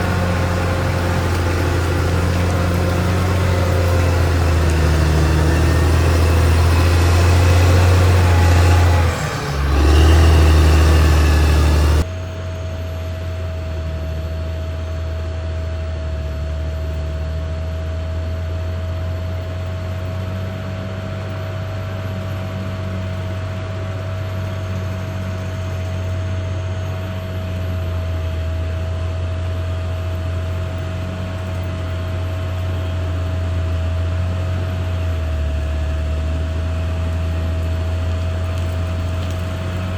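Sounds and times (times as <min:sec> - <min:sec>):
steady whine: 0:00.0 - 0:39.4
bulldozer diesel engine droning: 0:00.0 - 0:39.9.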